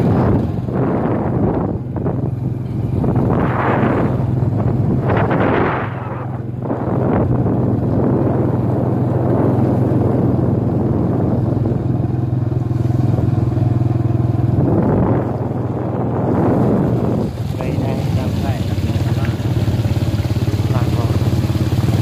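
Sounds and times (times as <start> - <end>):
continuous rushing noise: 0.0 - 22.0
small vehicle engine running: 0.0 - 22.0.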